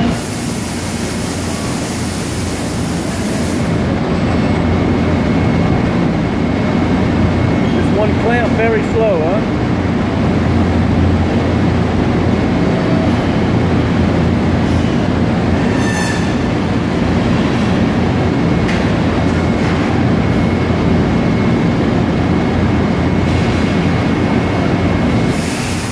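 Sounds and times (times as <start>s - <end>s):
factory machinery rumble and hum: 0.0s - 25.9s.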